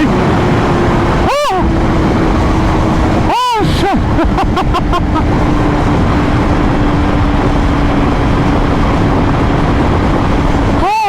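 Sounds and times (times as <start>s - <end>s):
motorcycle engine drone: 0.0s - 11.0s
wind noise on microphone: 0.0s - 11.0s.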